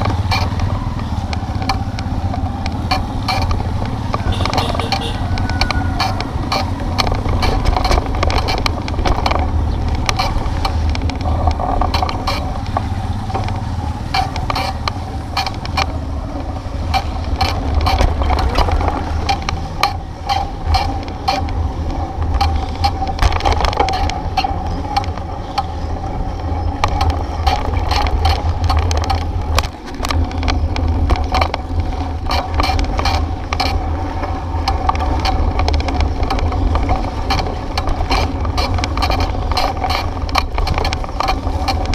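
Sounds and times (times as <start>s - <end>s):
bicycle rattling and clicking: 0.0s - 41.9s
low rumble of tyres on road: 0.0s - 41.9s.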